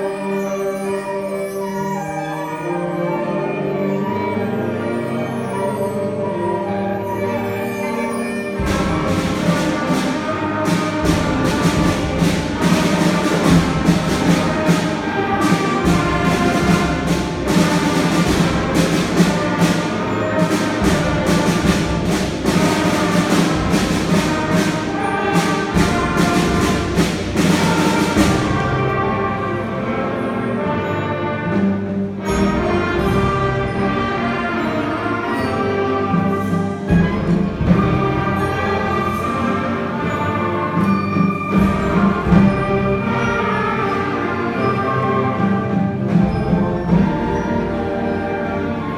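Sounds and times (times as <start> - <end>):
orchestral music with brass: 0.0 - 48.9.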